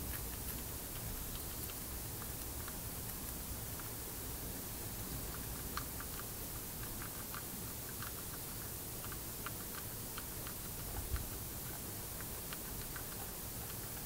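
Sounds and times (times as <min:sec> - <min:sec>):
background hiss: 0:00.0 - 0:14.0
guinea pigs chewing: 0:00.0 - 0:14.0.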